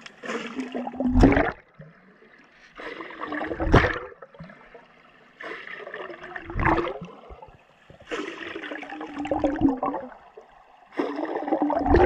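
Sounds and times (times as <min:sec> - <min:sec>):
underwater air bubbles: 0:00.0 - 0:12.0.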